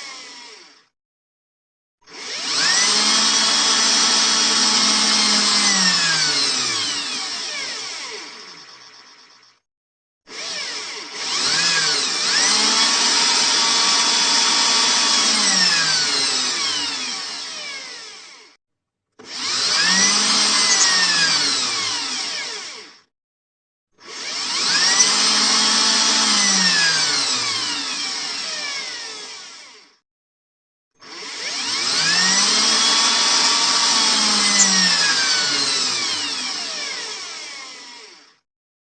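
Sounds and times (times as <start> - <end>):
power drill motor whining: 0.0 - 0.9, 2.1 - 9.6, 10.3 - 18.6, 19.2 - 23.1, 24.0 - 30.0, 31.0 - 38.4.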